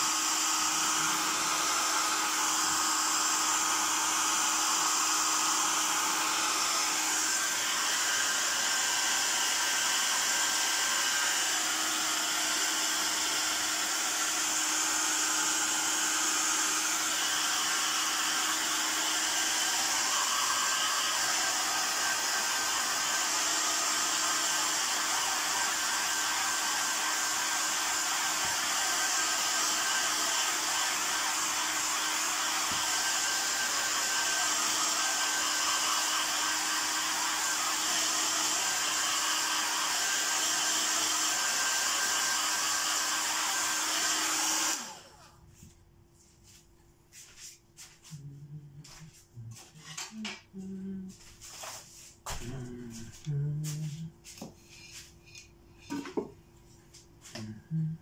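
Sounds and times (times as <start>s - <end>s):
hair dryer running: 0.0s - 45.7s, 46.4s - 58.0s.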